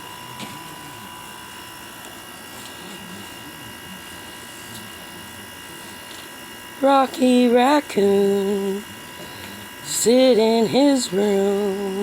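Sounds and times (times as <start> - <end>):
steady buzzing hum: 0.0 - 12.0.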